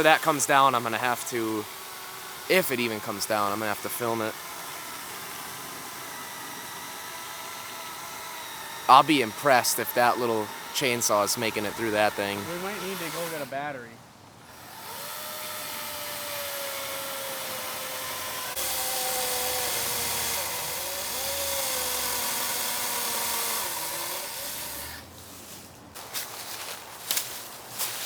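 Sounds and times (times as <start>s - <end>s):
electric chainsaw cutting wood: 0.0s - 13.8s, 14.5s - 25.1s.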